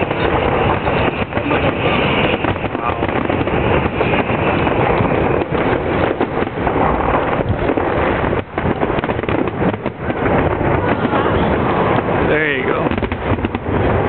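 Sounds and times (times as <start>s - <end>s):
fireworks bangs and crackle: 0.0s - 14.0s.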